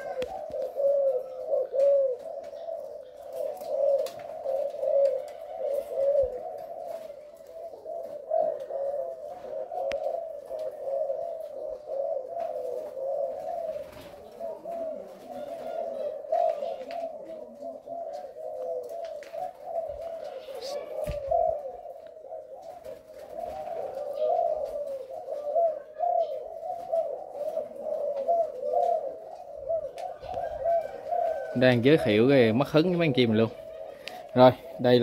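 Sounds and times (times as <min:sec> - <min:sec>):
doves cooing: 0:00.0 - 0:35.0.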